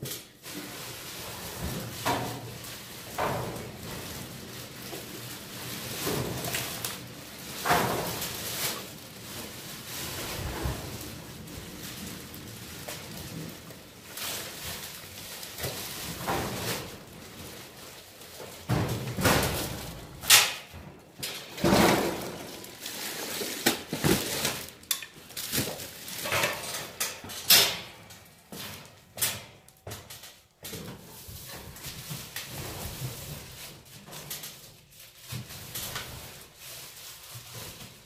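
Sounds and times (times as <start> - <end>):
bags rustling and scraping: 0.1 - 29.7, 30.7 - 38.0.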